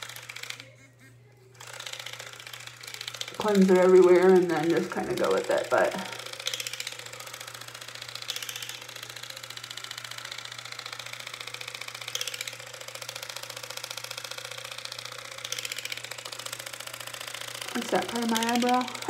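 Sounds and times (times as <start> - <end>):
electric cleansing device buzzing: 0.0 - 19.0.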